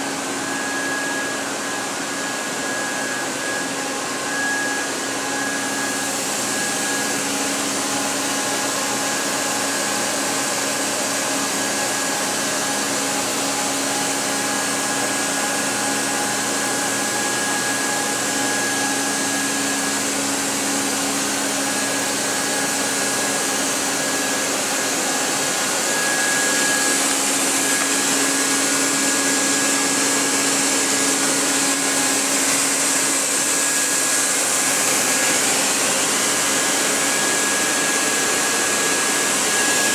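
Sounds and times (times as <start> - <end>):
faint high whine: 0.0 - 39.9
machine whirring and humming: 0.0 - 39.9.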